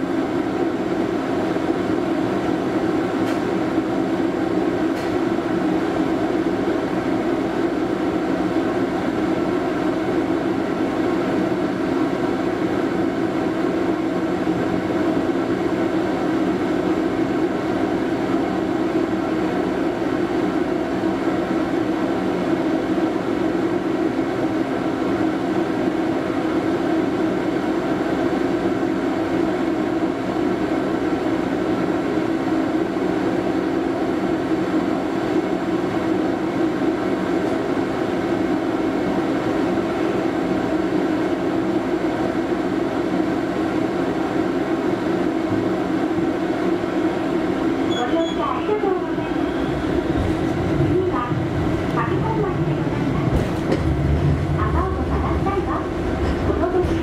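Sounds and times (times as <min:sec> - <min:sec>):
tram interior hum and rumble: 0:00.0 - 0:57.0.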